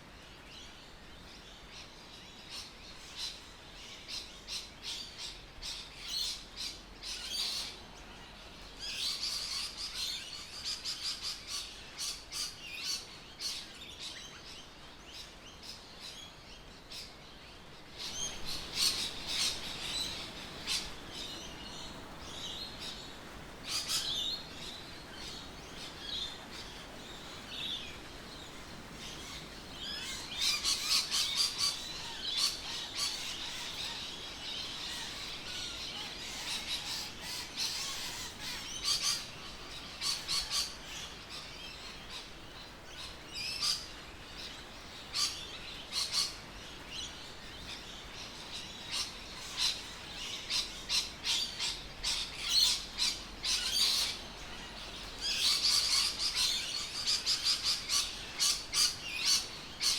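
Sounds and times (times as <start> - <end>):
birds chirping: 1.6 - 59.9.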